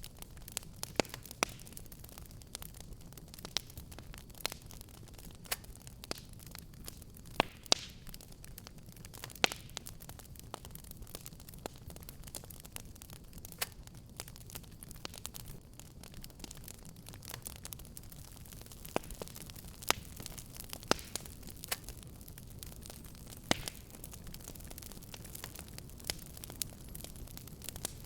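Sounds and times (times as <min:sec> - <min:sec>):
fireplace fire crackling: 0:00.0 - 0:28.0.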